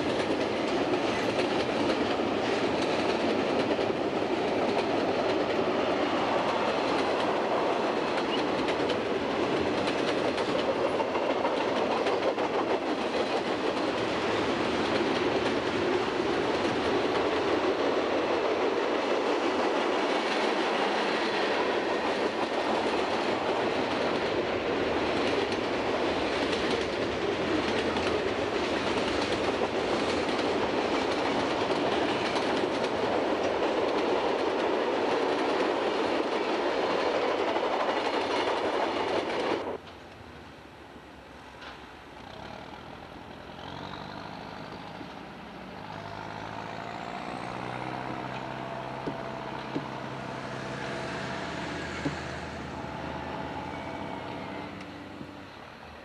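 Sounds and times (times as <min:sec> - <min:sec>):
freight train cars rolling: 0:00.0 - 0:56.0.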